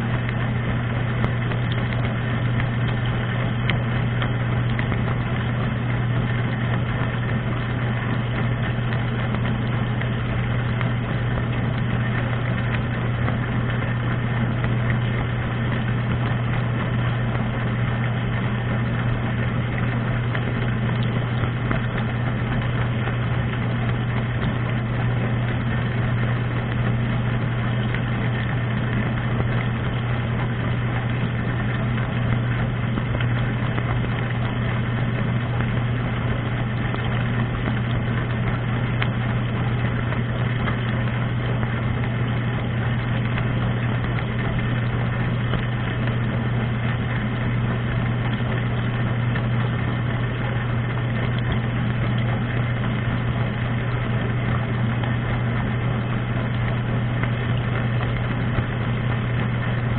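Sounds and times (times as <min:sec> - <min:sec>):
dishwasher pump motor hum: 0:00.0 - 0:59.9
spraying water: 0:00.0 - 0:59.9.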